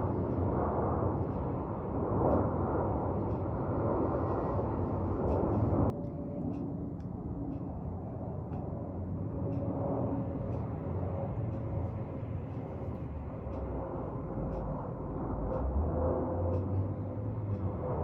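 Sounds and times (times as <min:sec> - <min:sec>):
jet engine rumble: 0:00.0 - 0:18.0
thin steady engine whine: 0:00.0 - 0:18.0.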